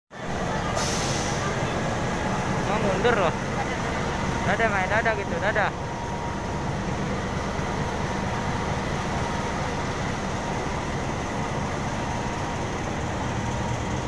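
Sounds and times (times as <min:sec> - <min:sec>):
diesel locomotive engine idling: 0:00.1 - 0:14.0.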